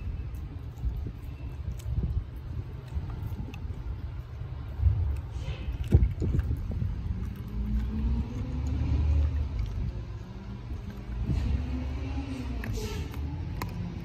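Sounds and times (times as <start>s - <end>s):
dog crunching a bone: 0.0s - 14.0s.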